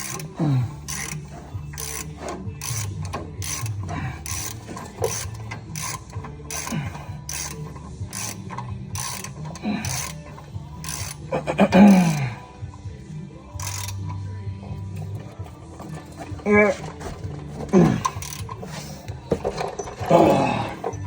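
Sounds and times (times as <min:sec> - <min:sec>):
ratchet wrench clicking: 0:00.0 - 0:21.0.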